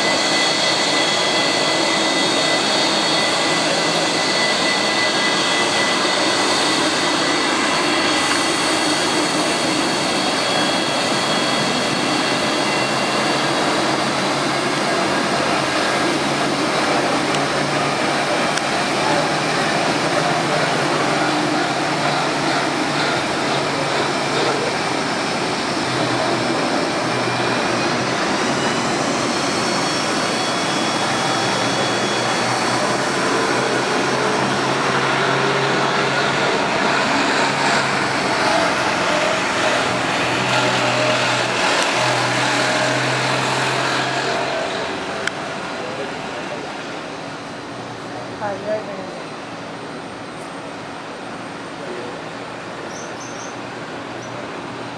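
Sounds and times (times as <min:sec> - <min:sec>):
jet engines running with whine: 0:00.0 - 0:54.9.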